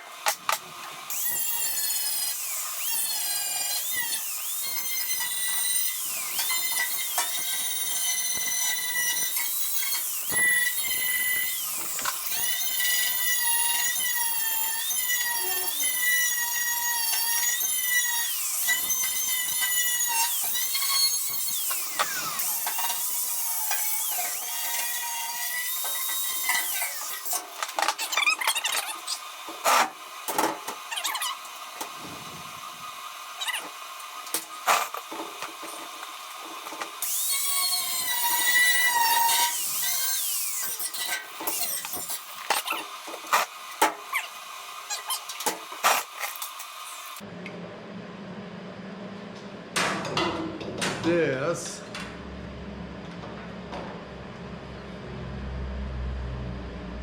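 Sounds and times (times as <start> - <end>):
grinder whining on sheet metal: 0.0 - 47.3.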